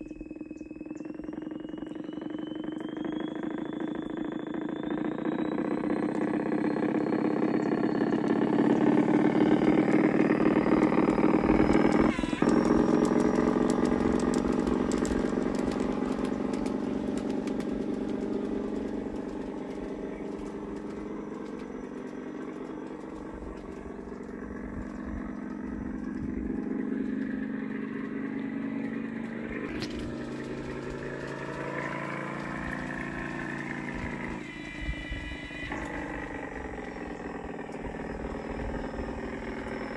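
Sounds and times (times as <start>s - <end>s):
model train motor and gear whine: 0.0s - 39.9s.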